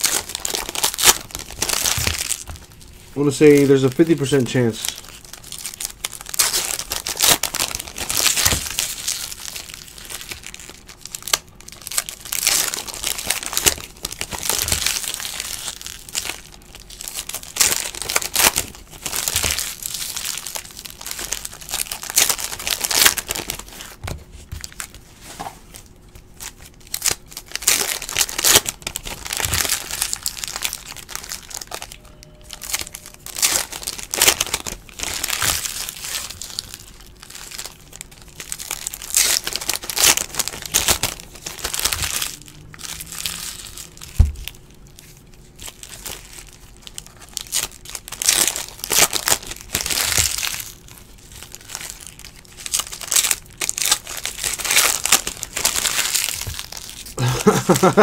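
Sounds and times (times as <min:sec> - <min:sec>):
foil wrappers torn open: 0:00.0 - 0:25.0, 0:25.7 - 0:58.0
foil wrappers crinkling: 0:00.0 - 0:58.0.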